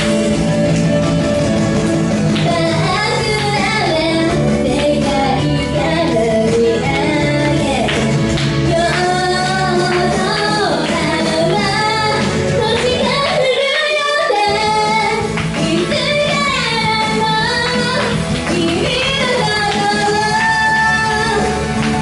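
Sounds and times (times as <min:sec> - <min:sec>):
pop accompaniment: 0:00.0 - 0:22.0
woman singing: 0:02.4 - 0:21.8.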